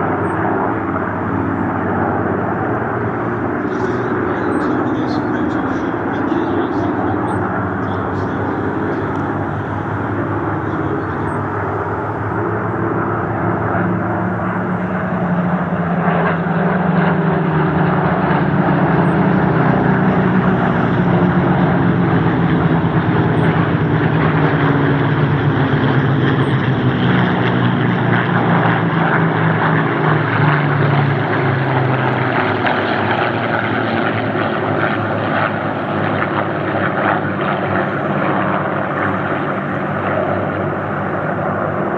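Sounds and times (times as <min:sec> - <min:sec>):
piston engine aircraft droning: 0:00.0 - 0:41.9.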